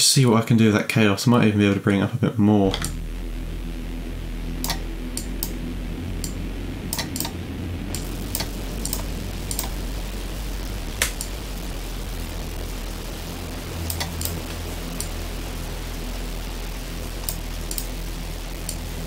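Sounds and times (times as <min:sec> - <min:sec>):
dark synth pad drone: 0:02.6 - 0:19.0.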